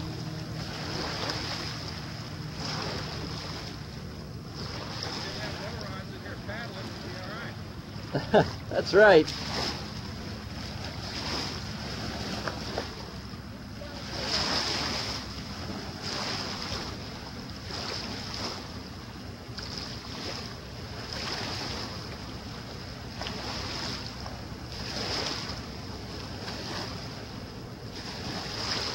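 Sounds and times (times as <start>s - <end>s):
water splashing and sloshing: 0.0s - 28.9s
wind rumble on microphone: 0.0s - 28.9s.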